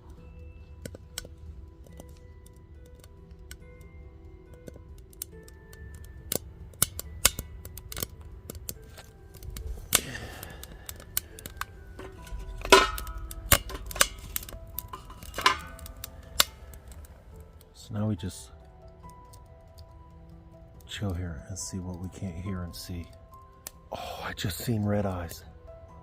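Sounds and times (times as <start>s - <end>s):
campfire crackling and popping: 0.0s - 26.0s
faint music: 0.0s - 26.0s.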